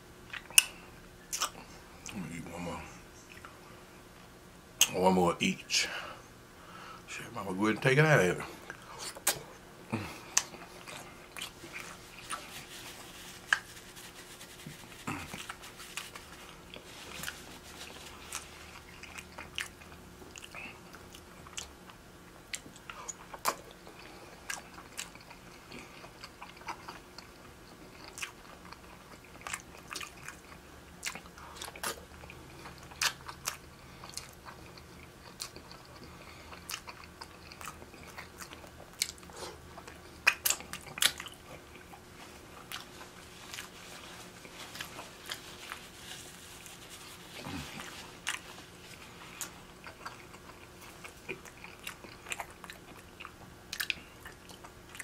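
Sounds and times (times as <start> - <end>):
biting and chewing: 8.6 - 55.0.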